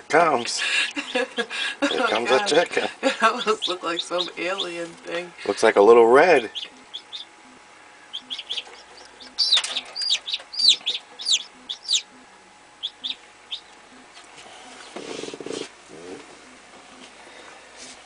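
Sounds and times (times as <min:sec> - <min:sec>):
chick peeping: 0:00.8 - 0:17.0.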